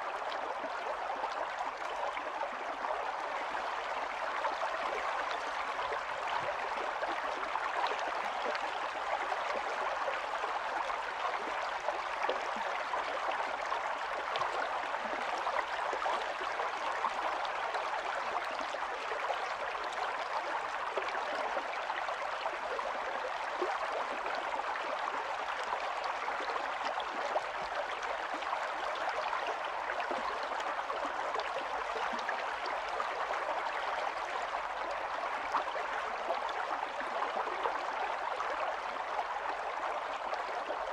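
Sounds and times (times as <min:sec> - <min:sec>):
stream water running and splashing: 0:00.0 - 0:40.9.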